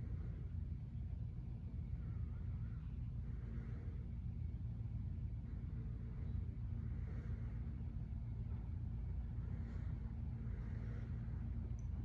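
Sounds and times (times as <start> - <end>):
ceiling fan whooshing and humming: 0.0 - 12.0.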